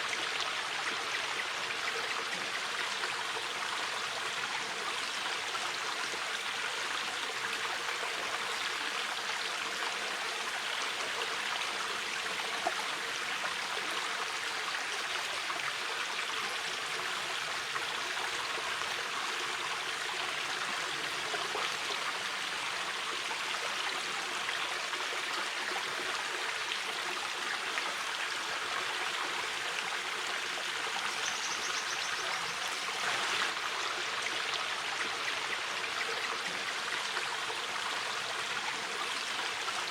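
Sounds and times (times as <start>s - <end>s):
river flowing over stones: 0.0s - 39.9s
water splashing and trickling: 0.0s - 39.9s.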